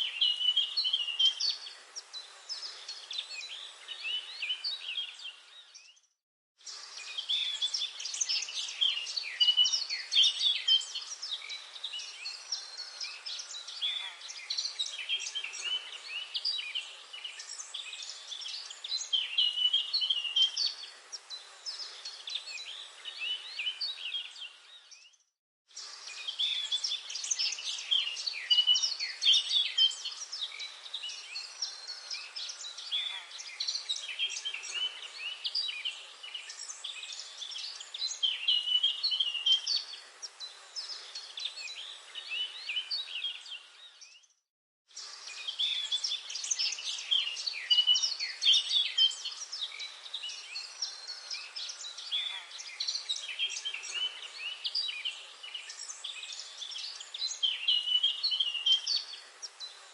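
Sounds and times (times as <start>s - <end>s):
small birds chirping and singing: 0.0s - 59.9s.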